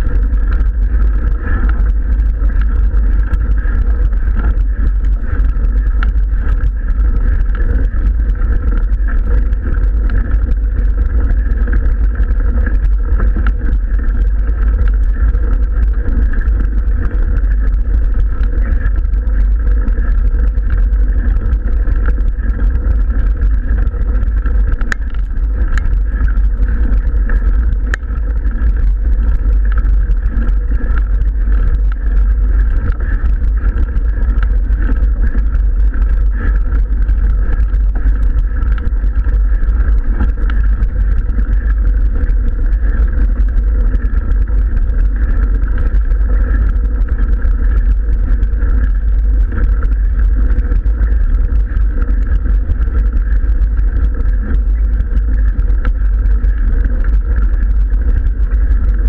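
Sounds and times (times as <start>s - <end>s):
bike tyres rumbling on gravel: 0.0s - 59.0s.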